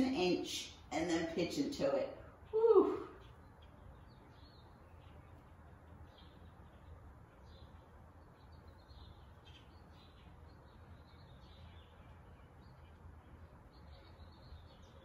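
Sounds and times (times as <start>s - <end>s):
low room hum: 0.0s - 15.0s
faint high bird chirps: 2.1s - 15.0s.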